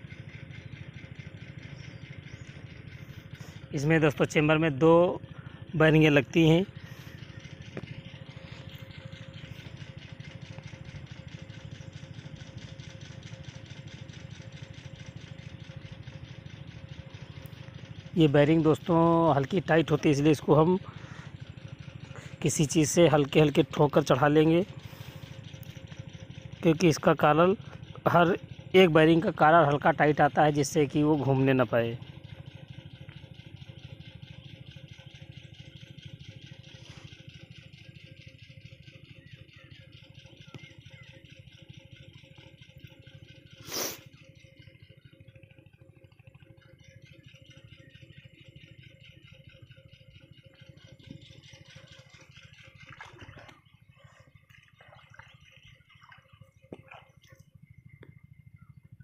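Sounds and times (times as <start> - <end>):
engine idling: 0.0 - 59.0
thin steady hum: 0.0 - 59.0.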